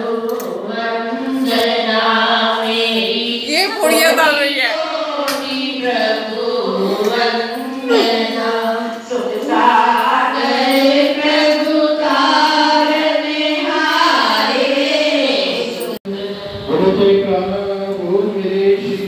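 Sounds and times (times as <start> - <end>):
group singing a hymn: 0.0 - 16.5.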